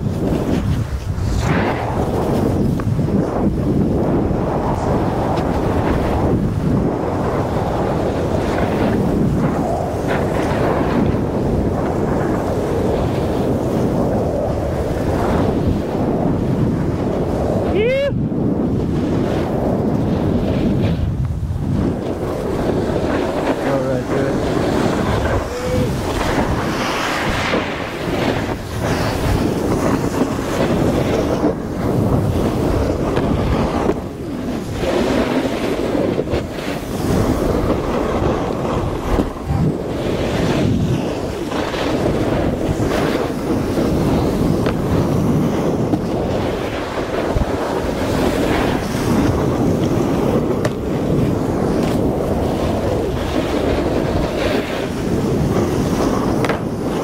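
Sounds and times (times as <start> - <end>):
snowboard scraping on snow: 0.0 - 57.0
wind rushing over microphone: 0.0 - 57.0.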